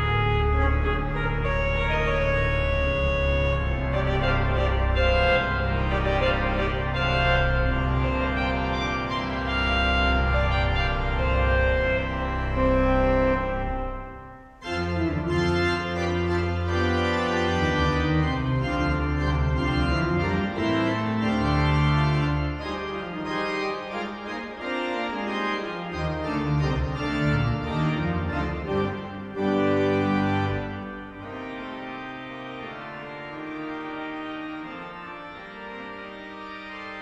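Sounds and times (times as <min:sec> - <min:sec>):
pipe organ playing a fanfare: 0:00.0 - 0:37.0.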